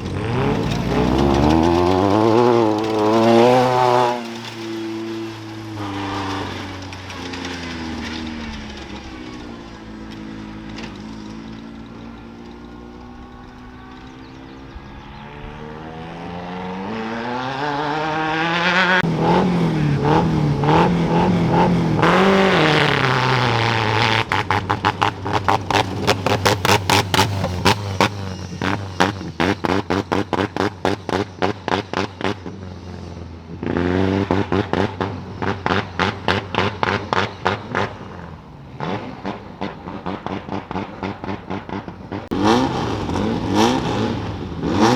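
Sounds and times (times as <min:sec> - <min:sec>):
engine revving: 0:00.0 - 0:44.9.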